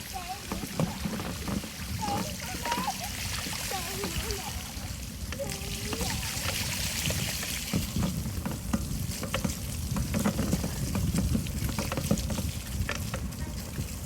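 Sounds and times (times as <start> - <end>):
bicycle tyres splashing through water: 0.0 - 14.0.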